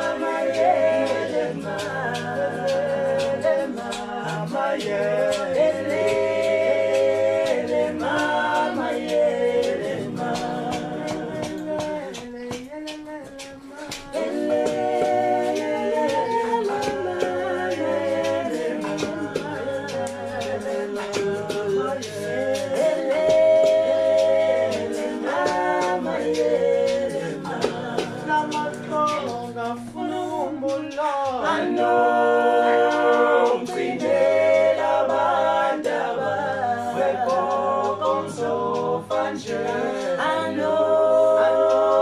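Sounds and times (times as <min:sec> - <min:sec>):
male vocal group singing in harmony: 0:00.0 - 0:42.0.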